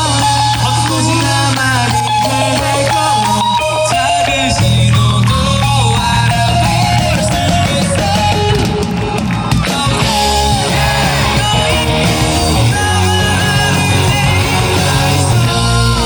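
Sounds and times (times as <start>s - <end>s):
live rock band: 0.0s - 16.0s.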